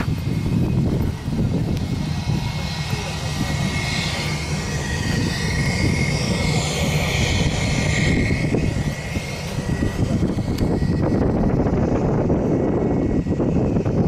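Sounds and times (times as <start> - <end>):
aircraft engines whining: 0.0 - 14.0
wind buffeting microphone: 0.0 - 14.0.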